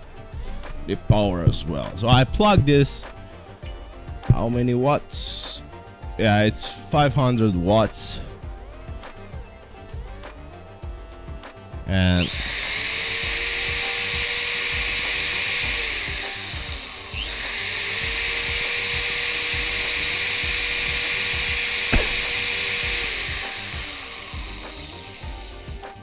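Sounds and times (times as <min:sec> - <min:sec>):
electric tool motor whirring: 0:00.0 - 0:04.8, 0:05.4 - 0:26.0.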